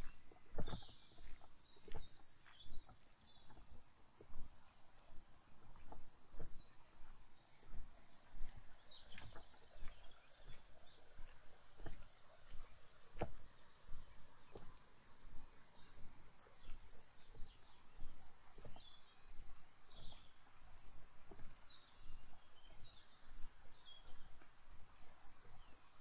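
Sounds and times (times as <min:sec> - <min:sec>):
footsteps on path: 0:00.0 - 0:26.0
small birds chirping: 0:00.0 - 0:26.0.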